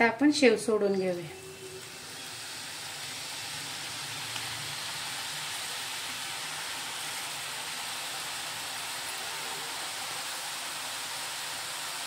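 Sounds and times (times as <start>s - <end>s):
oil sizzling in a pan: 0.1s - 12.0s.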